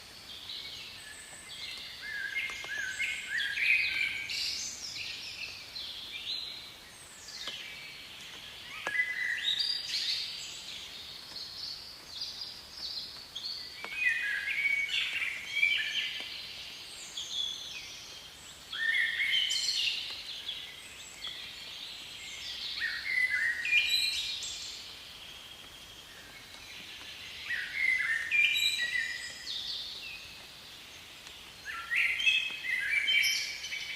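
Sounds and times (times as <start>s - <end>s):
faint background hiss: 0.0s - 33.9s
songbirds chirping: 0.0s - 33.9s.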